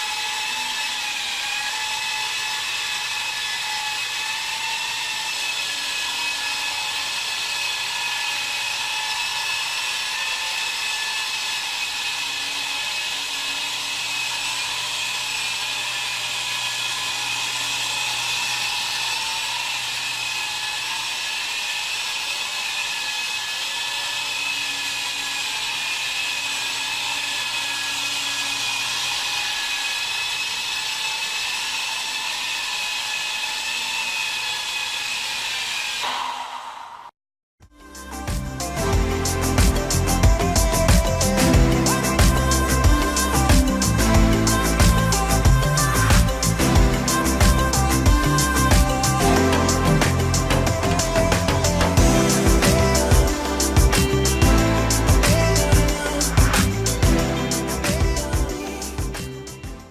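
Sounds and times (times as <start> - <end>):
small electric motor whine: 0.0 - 36.6, 37.8 - 59.9.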